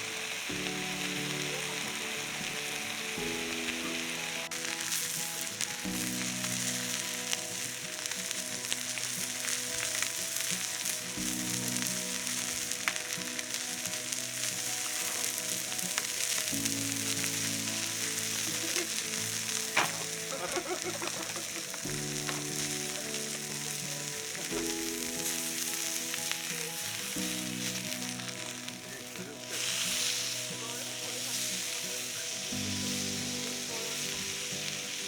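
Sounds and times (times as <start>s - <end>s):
background music: 0.0s - 35.0s
food sizzling in a pan: 0.0s - 35.0s.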